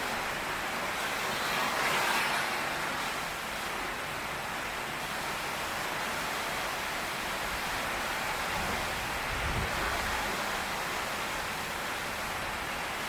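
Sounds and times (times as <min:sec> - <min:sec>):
heavy rain on a tin roof: 0:00.0 - 0:13.0.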